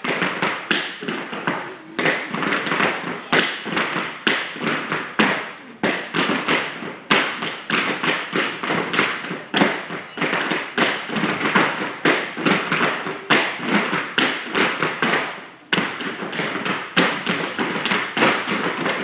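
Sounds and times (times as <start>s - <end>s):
tap shoes on hard floor: 0.0s - 19.0s.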